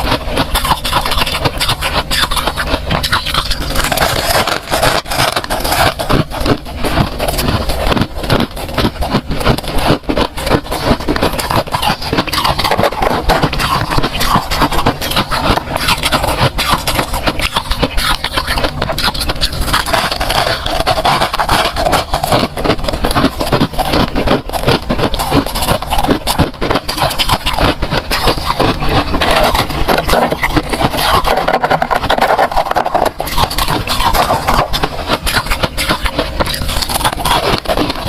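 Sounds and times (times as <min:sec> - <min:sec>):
frost being crunched: 0:00.0 - 0:38.0.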